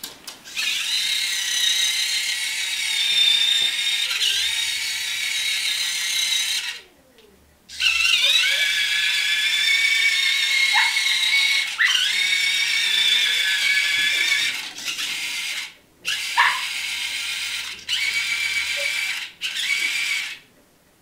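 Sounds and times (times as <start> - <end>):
high-pitched gear-motor whine: 0.5 - 6.8, 7.7 - 20.4.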